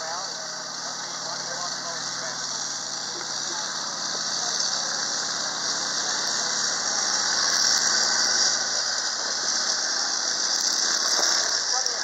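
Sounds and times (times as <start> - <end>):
high-pitched squeal of tracks: 0.0 - 12.0
tracked vehicle engine running: 0.0 - 12.0.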